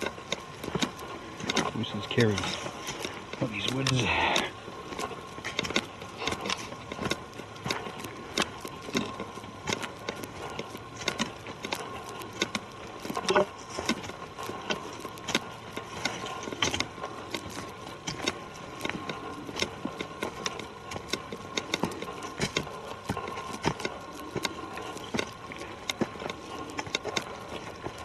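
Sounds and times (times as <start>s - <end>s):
footsteps crunching on trail: 0.0s - 28.0s.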